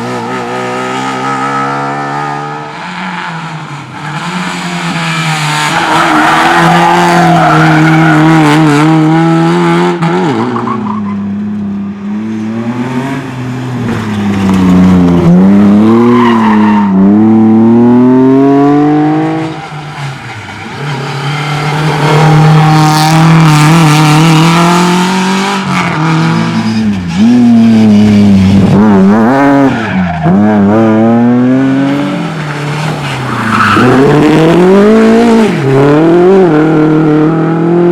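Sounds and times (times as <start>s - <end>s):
rally car engines at full throttle: 0.0s - 37.9s.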